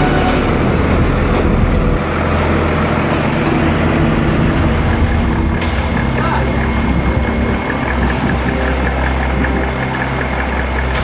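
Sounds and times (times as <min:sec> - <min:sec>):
boat diesel engine running: 0:00.0 - 0:11.0.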